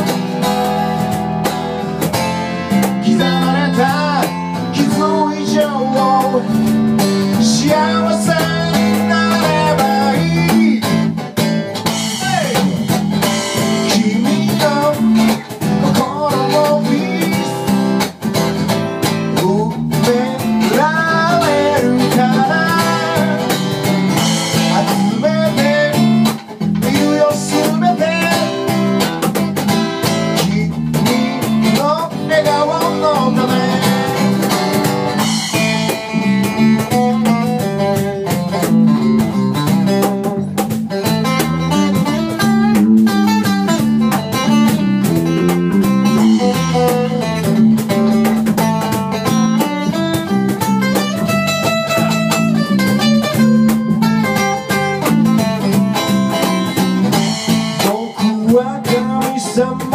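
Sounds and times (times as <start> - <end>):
acoustic guitar strumming: 0.0 - 59.9
cajon beat: 0.0 - 59.9
electric bass: 0.0 - 59.9.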